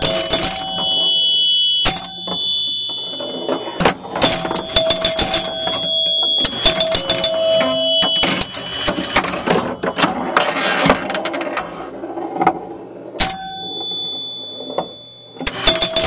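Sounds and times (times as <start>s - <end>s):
high ringing tones: 0.0s - 11.2s, 13.2s - 16.0s
pinball relays and coils clacking: 0.0s - 11.7s, 13.2s - 16.0s.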